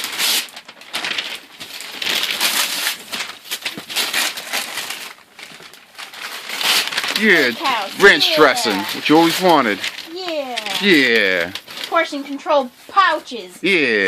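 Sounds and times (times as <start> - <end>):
wrapping paper tearing and crinkling: 0.0 - 13.2.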